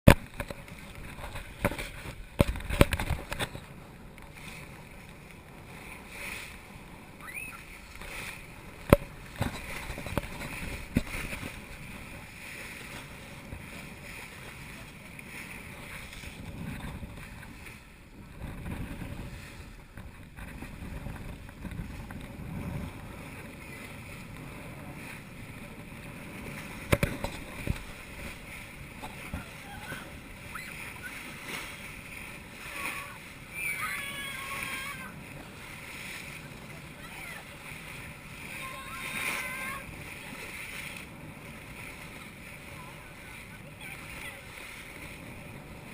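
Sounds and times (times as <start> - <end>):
water washing along a hull: 0.0 - 45.9.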